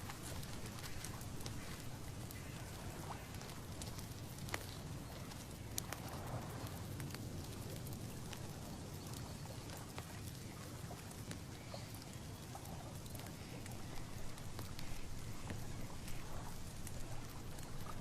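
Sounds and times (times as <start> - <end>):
light ticks and clicks: 0.0 - 18.0.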